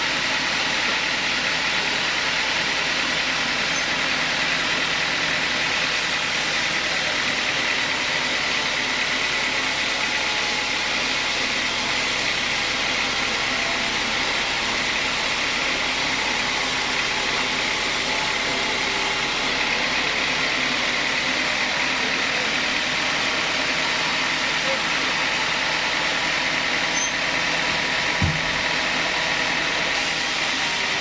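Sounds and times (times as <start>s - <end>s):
sawmill saw hissing and whining: 0.0s - 31.0s.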